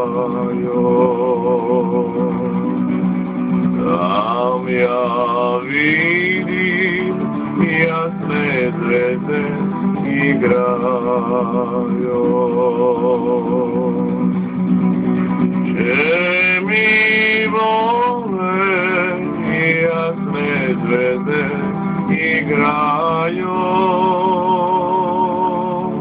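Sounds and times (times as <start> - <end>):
man singing: 0.0 - 3.0, 3.8 - 14.3, 15.7 - 26.0
acoustic guitar strumming: 0.0 - 26.0.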